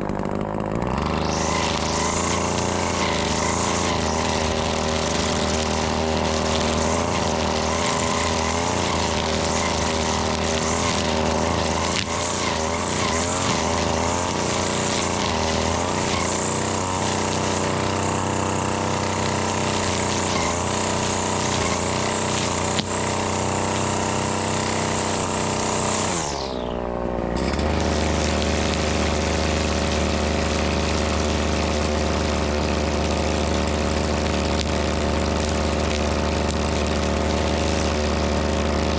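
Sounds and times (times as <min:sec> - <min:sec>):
string trimmer idling: 0:00.0 - 0:38.9
string trimmer running: 0:00.0 - 0:38.9.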